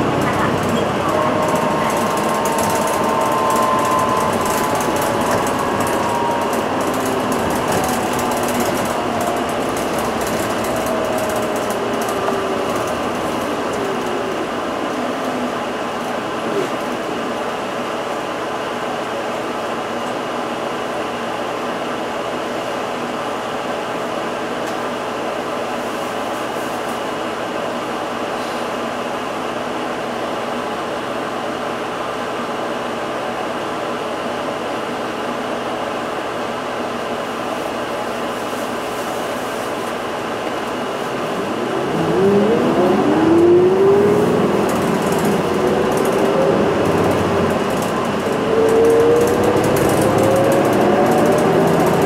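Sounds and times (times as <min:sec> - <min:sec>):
bus drive whine: 0:00.0 - 0:52.0
bus mechanical hum: 0:00.0 - 0:52.0.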